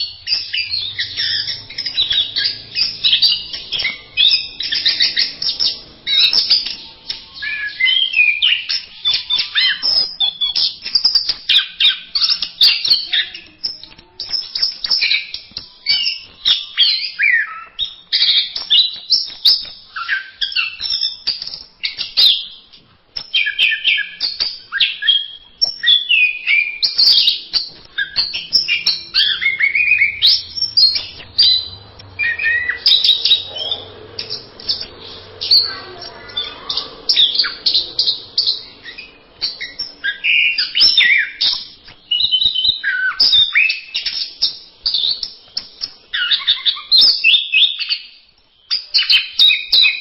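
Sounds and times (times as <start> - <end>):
bird singing chirps and trills: 0.0 - 50.0.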